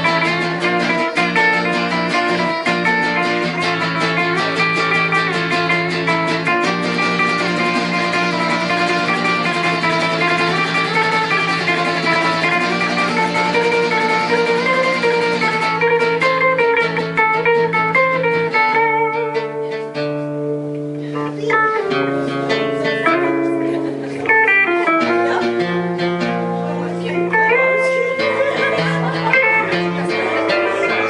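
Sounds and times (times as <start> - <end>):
guitar picking a melody: 0.0 - 31.0.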